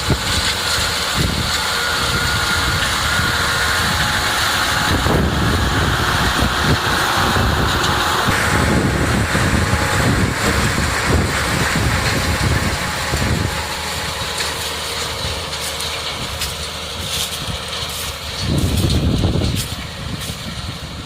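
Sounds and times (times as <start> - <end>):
tractor engine rumble: 0.0 - 21.0.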